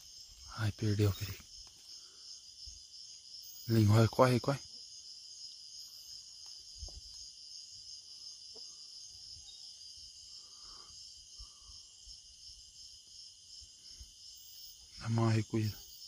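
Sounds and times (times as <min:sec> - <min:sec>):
night insects shrilling: 0:00.0 - 0:16.0.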